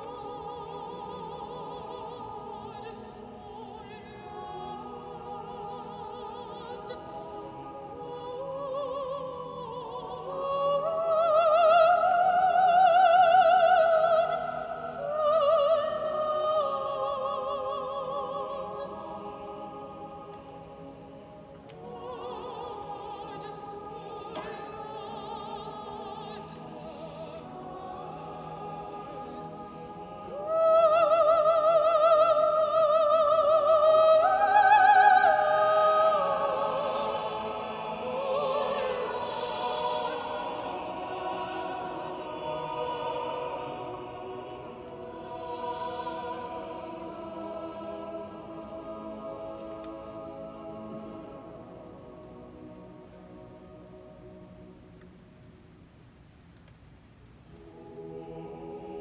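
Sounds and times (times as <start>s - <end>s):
choir singing: 0.0s - 55.8s, 57.5s - 59.0s
soprano soloist singing: 0.0s - 55.9s, 57.5s - 59.0s.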